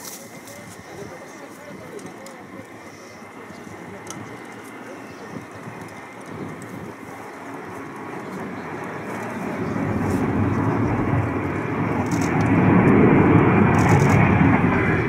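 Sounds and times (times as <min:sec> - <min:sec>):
jet aircraft rumble overhead: 0:00.0 - 0:15.0.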